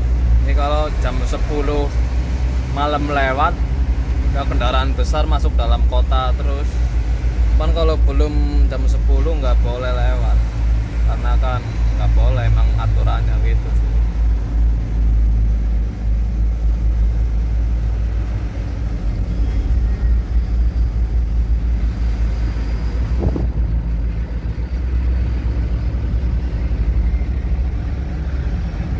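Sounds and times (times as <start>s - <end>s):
road noise: 0.0s - 28.9s
truck engine rumble: 0.0s - 28.9s.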